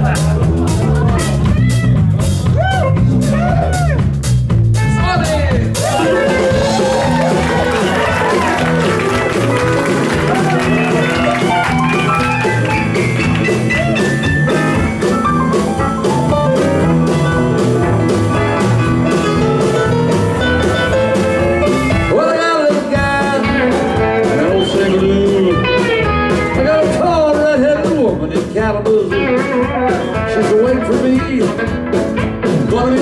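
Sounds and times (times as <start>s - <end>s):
country-rock band playing: 0.0s - 33.0s
steady drum beat: 0.0s - 33.0s
bending sliding lead guitar line: 5.7s - 33.0s.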